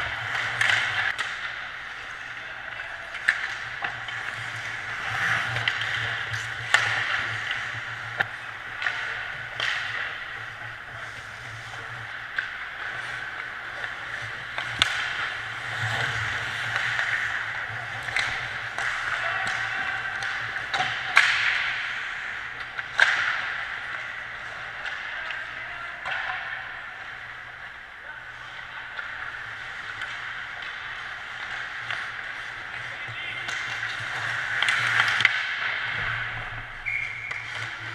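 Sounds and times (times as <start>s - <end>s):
clacks of sticks and puck: 0.0s - 37.9s
skates scraping on ice: 0.0s - 37.9s.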